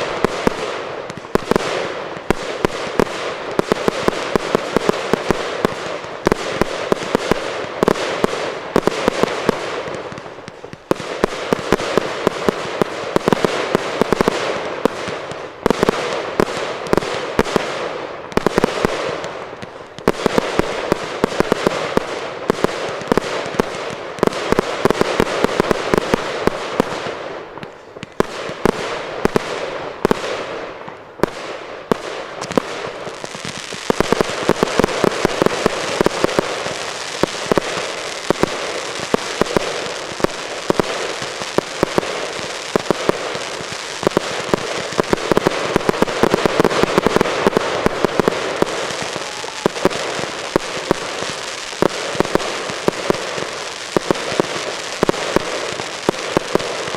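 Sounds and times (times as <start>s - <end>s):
fireworks crackling and banging: 0.0s - 56.9s.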